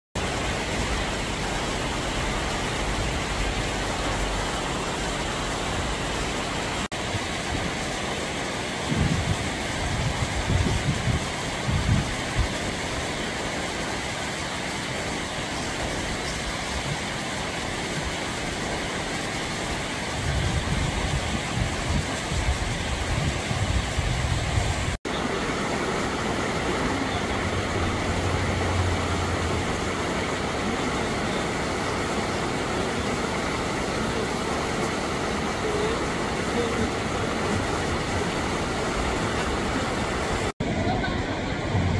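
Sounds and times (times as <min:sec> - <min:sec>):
stream rushing over rocks: 0:00.2 - 0:41.9.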